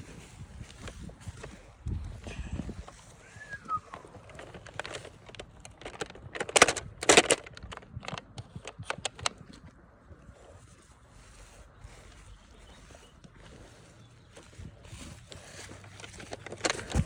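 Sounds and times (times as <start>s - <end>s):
crunching through dry leaves: 0.0s - 9.6s, 10.3s - 17.0s.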